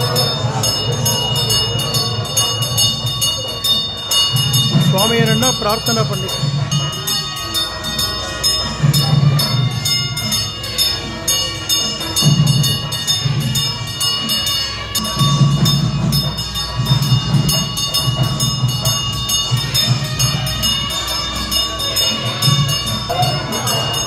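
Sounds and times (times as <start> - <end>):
bells ringing rapidly: 0.0 - 24.0.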